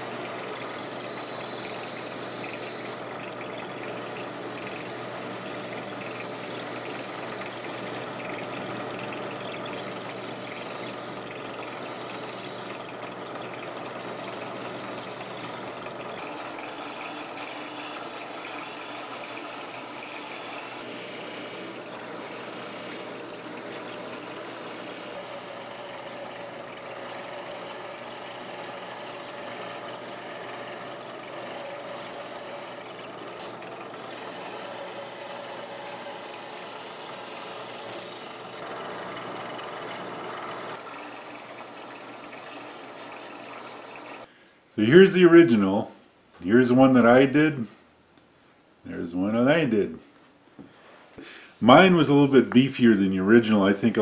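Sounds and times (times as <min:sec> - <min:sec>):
lathe motor hum: 0:00.0 - 0:44.3
turning tool scraping wood: 0:00.0 - 0:44.3.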